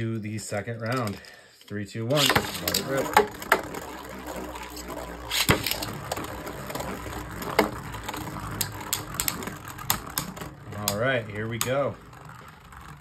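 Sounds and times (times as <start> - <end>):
spinning tops clacking: 2.1 - 13.0.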